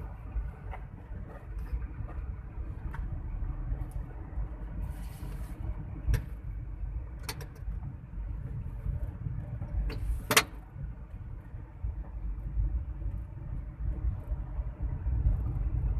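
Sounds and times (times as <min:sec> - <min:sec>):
car road and engine rumble: 0:00.0 - 0:15.9.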